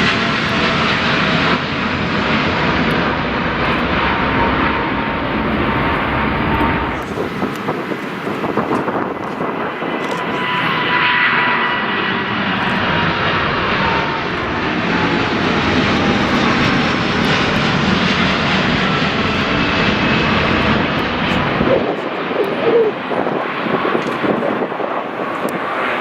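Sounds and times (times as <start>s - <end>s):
jet engines rushing: 0.0s - 26.0s
thin engine whine: 0.0s - 26.0s.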